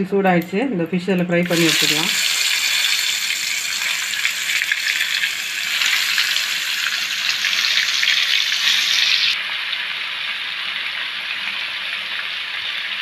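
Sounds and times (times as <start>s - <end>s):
fish sizzling in hot oil: 1.4s - 13.0s.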